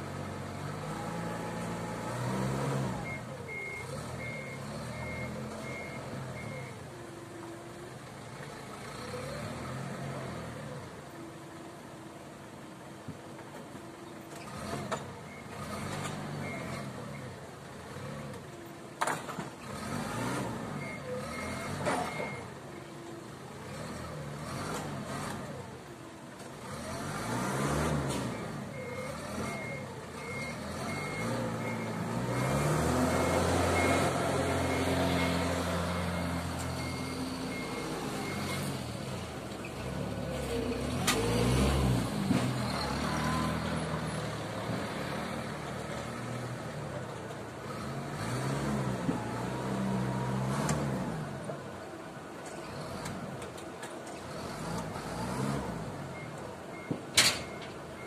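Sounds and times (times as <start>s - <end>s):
forklift engine revving: 0.0s - 6.8s, 14.4s - 18.6s, 19.6s - 22.6s, 23.5s - 51.5s, 52.6s - 58.0s.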